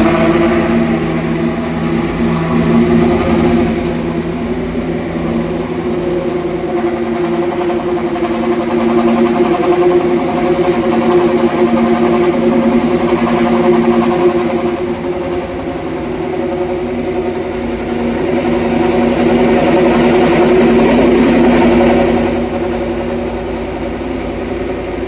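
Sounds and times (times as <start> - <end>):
racing car engine idling: 0.0 - 25.0.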